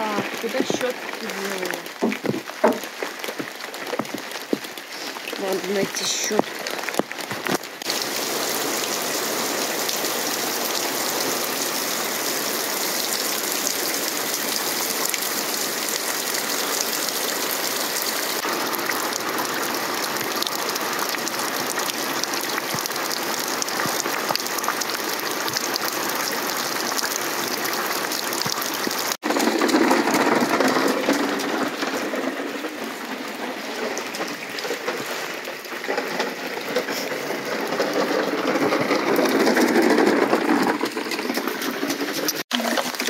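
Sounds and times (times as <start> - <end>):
rain falling into puddles: 0.0 - 43.0
toy truck wheels rolling on mud: 0.0 - 43.0.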